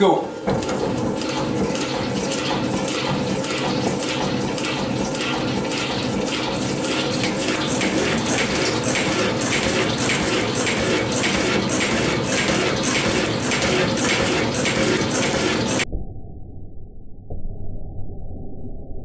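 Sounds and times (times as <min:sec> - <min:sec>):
milling machine whine: 0:00.0 - 0:15.8.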